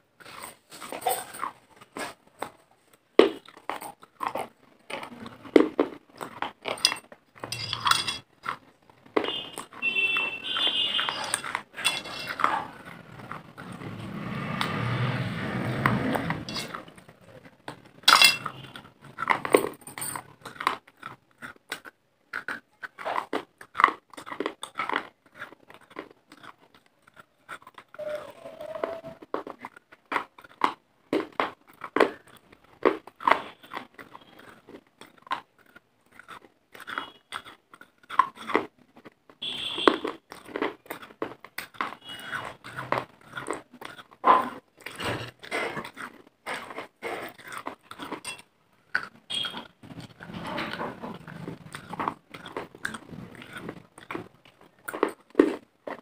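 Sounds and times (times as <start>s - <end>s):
crunching and chewing clay: 0.0s - 56.0s.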